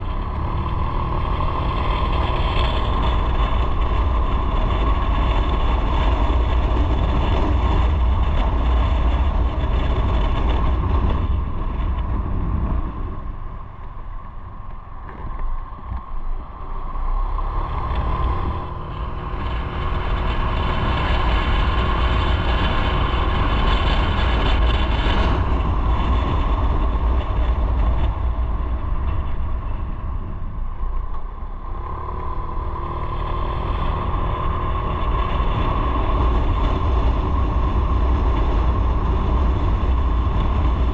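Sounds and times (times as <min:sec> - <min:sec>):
motorcycle engine running: 0:00.0 - 0:40.9
wind on microphone: 0:00.0 - 0:40.9.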